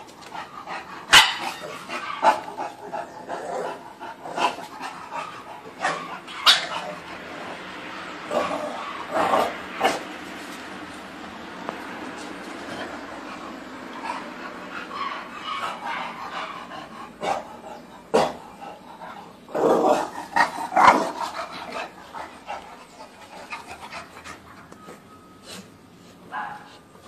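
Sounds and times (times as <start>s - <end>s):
dogs breathing and panting: 0.0s - 27.0s.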